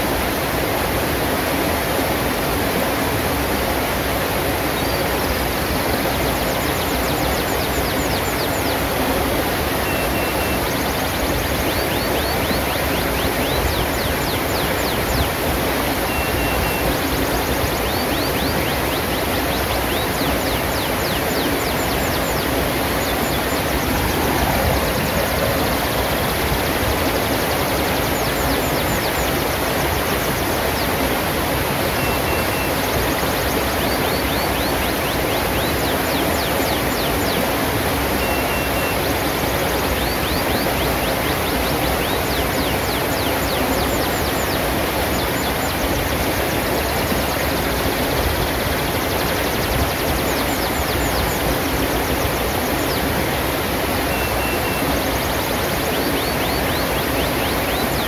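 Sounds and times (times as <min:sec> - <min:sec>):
stream rushing over rocks: 0:00.0 - 0:58.0
small birds chirping: 0:06.4 - 0:47.4, 0:49.3 - 0:58.0.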